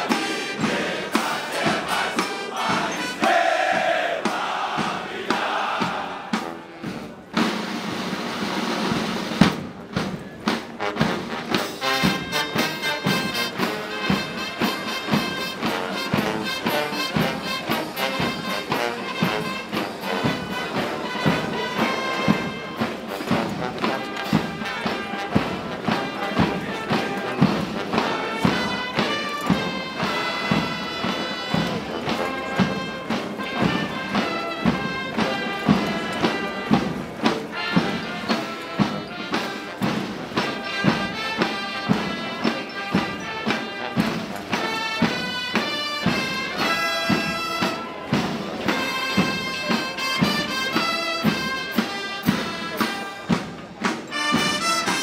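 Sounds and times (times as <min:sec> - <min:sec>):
brass march music: 0:00.0 - 0:55.0.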